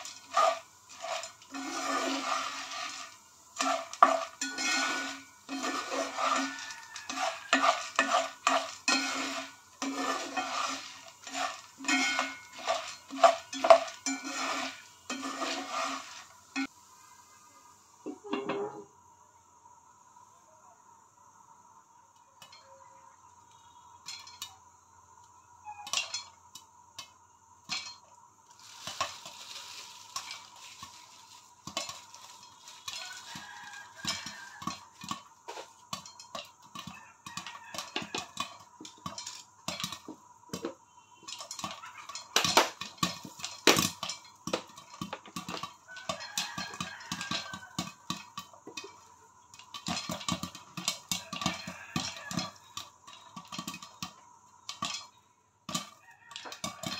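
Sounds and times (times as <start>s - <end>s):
popcorn popping in a covered pan: 0.0s - 20.1s, 21.0s - 56.9s.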